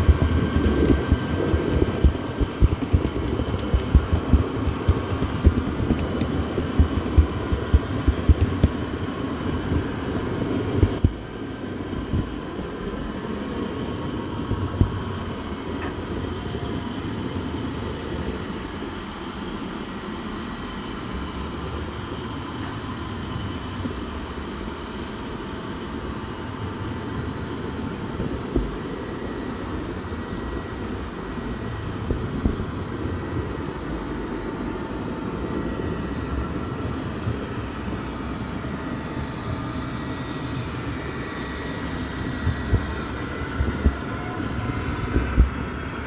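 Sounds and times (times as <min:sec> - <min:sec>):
train rumbling on rails: 0:00.0 - 0:46.0.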